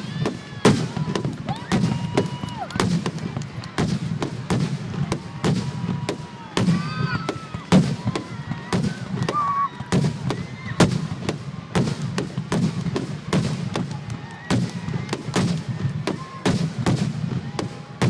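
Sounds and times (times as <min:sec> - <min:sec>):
firework whistles: 0:00.0 - 0:18.0.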